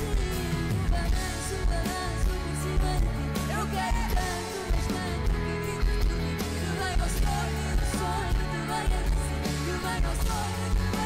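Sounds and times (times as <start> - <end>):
pop-rock band playing: 0.0 - 11.0
woman singing: 0.0 - 11.0.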